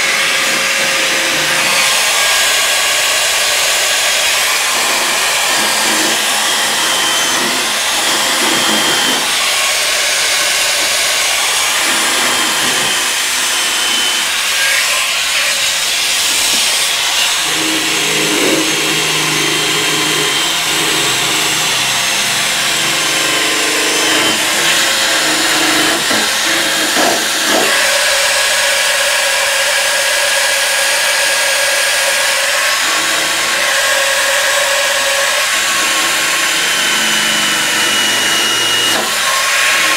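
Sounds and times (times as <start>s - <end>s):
power tool grinding on metal: 0.0s - 39.9s.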